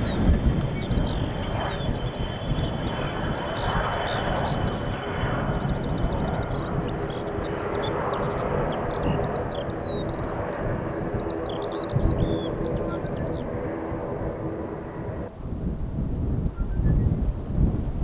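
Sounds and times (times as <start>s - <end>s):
jet engines rushing: 0.0s - 15.4s
wind rumble on microphone: 0.0s - 18.0s.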